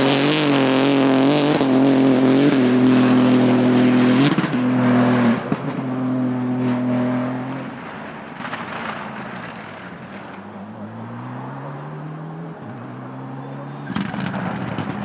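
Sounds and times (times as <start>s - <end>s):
rally car engine revving high: 0.0s - 15.0s.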